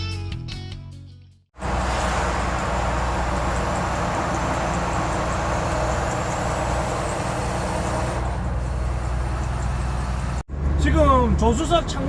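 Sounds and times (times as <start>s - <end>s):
tire and road noise: 1.6s - 12.0s
truck engine hum: 1.6s - 12.0s.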